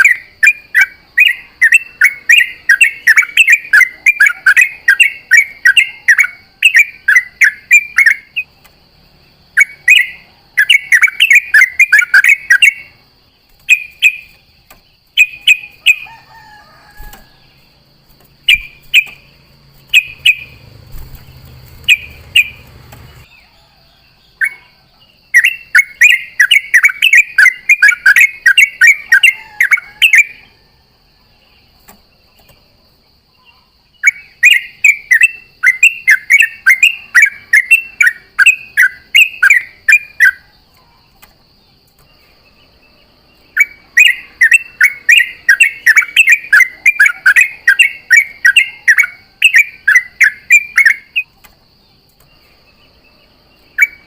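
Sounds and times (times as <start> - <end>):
bird chattering song: 0.0 - 30.6, 33.4 - 54.0.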